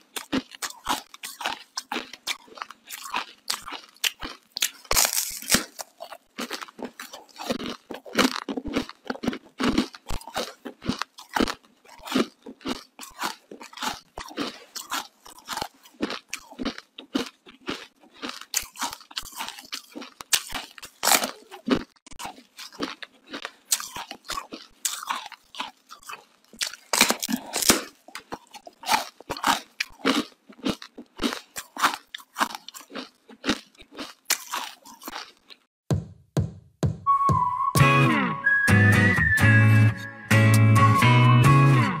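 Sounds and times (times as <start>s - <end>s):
crunching ice being chewed: 0.0s - 35.7s.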